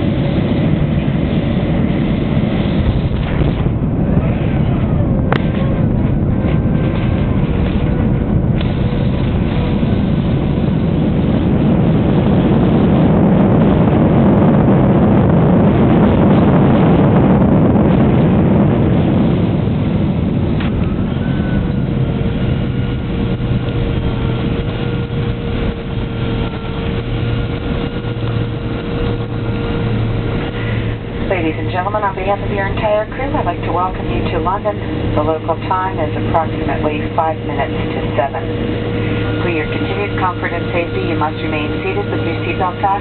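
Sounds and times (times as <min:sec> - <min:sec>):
airplane cabin rumble: 0:00.0 - 0:43.0
jet engine whine: 0:00.0 - 0:43.0.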